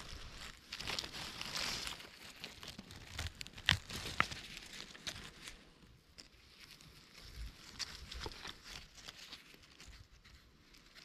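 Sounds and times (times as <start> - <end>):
forest litter rustling: 0.0 - 11.0.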